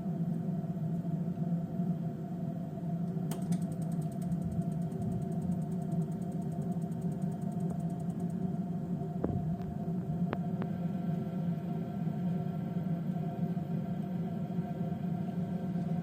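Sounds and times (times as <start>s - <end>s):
gas boiler humming: 0.0s - 16.0s.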